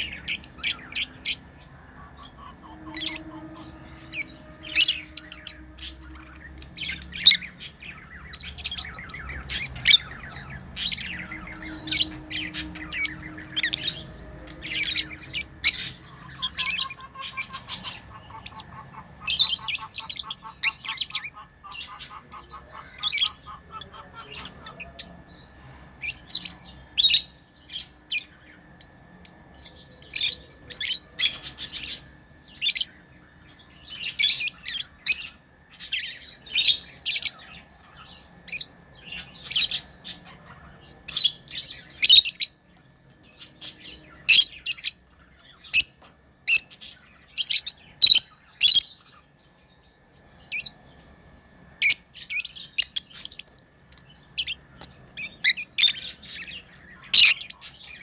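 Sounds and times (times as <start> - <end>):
lovebirds chirping and squawking: 0.0 - 58.0
low rapid pulsing chatter: 0.0 - 58.0.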